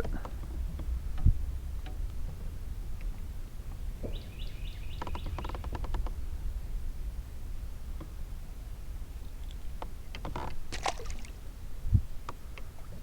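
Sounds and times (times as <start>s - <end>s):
low wind rumble on microphone: 0.0s - 13.0s.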